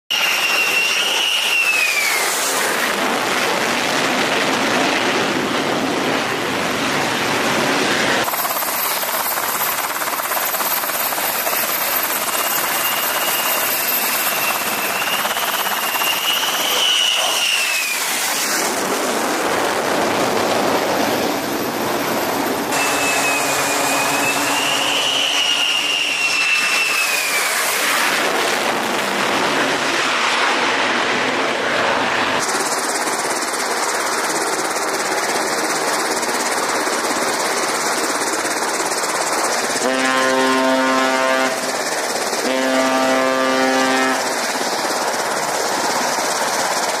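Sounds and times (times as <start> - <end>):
high turbine whine: 0.1 - 47.0
jet engine roaring: 0.1 - 47.0.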